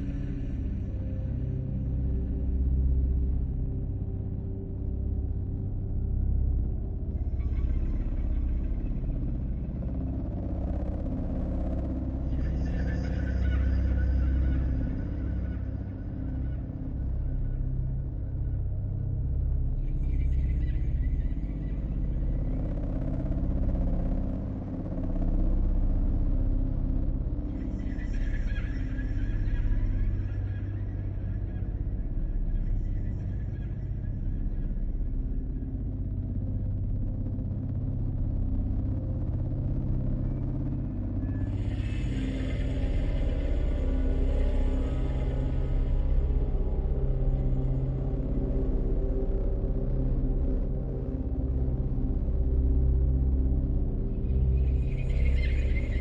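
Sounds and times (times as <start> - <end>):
deep ambient drone: 0.0 - 56.0.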